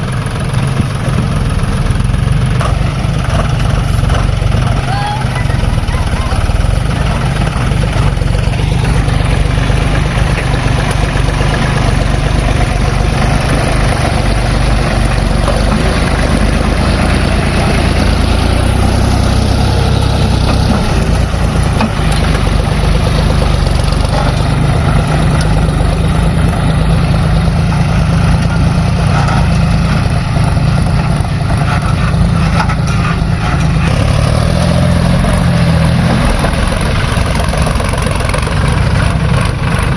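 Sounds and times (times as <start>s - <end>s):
diesel engines rumbling: 0.0s - 39.9s.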